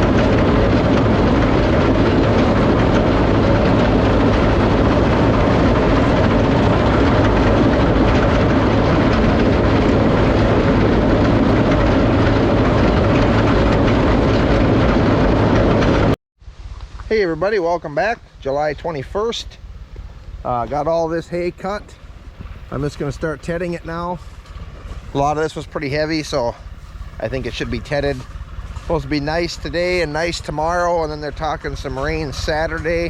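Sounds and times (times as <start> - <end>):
tractor and mower din: 0.0 - 33.0.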